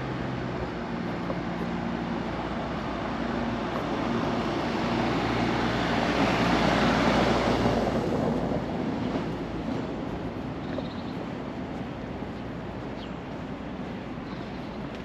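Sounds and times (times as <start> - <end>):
vehicle passing on cobblestones: 0.0 - 15.0.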